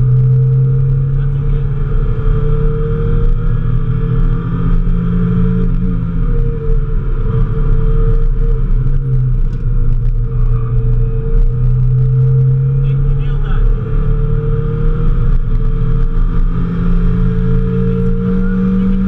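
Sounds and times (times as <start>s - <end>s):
car engine under load: 0.0s - 19.0s.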